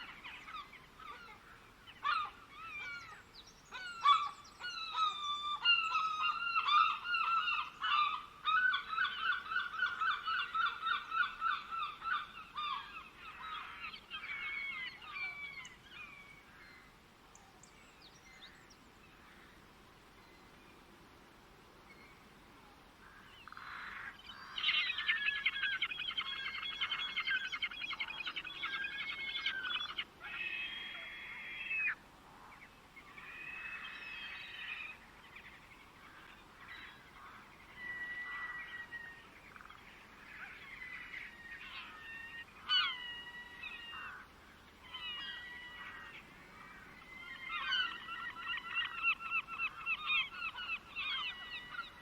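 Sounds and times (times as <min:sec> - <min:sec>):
birds calling: 0:00.0 - 0:19.6, 0:23.0 - 0:52.0.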